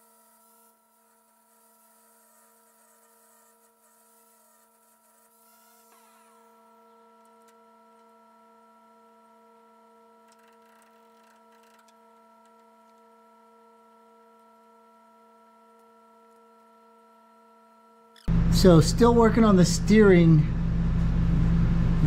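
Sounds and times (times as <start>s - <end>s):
faint multi-tone hum: 0.0s - 22.0s.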